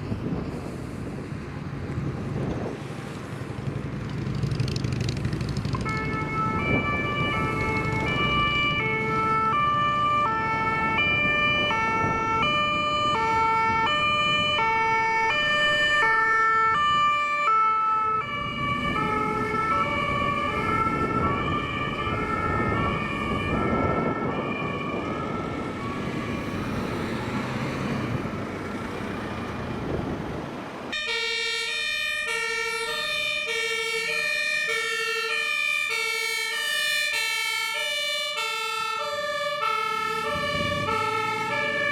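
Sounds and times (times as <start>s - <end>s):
vehicle engine and tyre noise: 0.0s - 41.9s
two-tone emergency siren: 5.6s - 28.5s, 30.9s - 41.9s.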